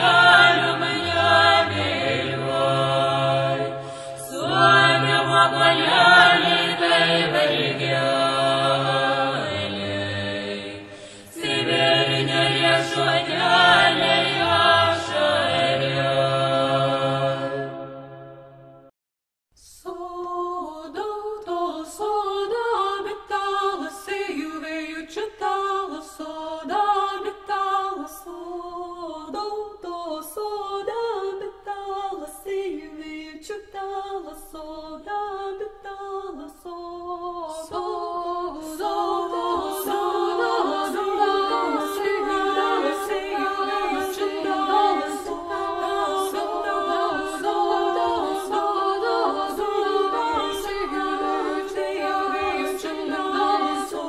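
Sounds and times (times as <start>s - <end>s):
unaccompanied voices singing: 0.0s - 17.8s, 19.8s - 54.0s.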